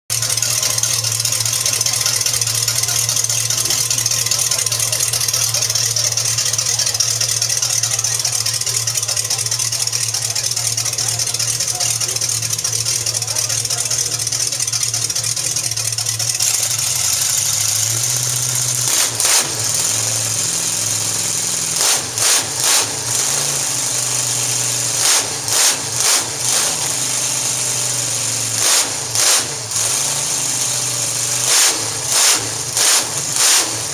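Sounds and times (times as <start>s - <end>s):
car engine idling: 0.0s - 33.9s
engine revving in throttle blips: 0.1s - 33.9s.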